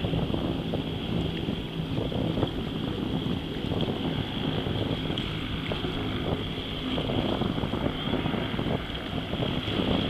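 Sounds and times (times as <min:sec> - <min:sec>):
distant propeller plane drone: 0:00.0 - 0:10.0
wind buffeting microphone: 0:00.0 - 0:10.0.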